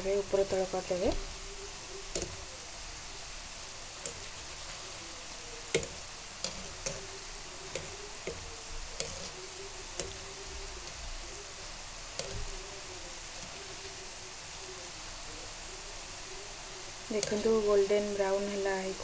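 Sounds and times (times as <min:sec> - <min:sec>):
dough deep-frying in oil: 0:00.0 - 0:19.0.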